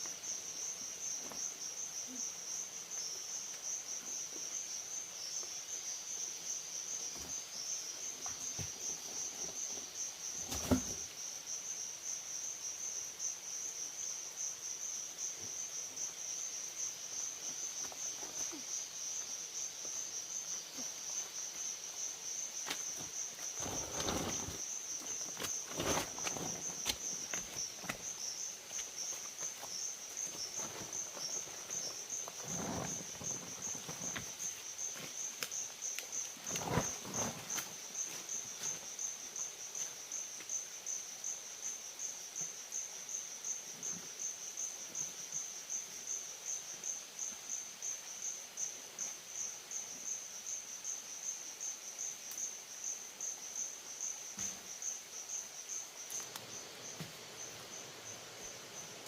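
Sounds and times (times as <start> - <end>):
insect chorus trilling: 0.0 - 59.0.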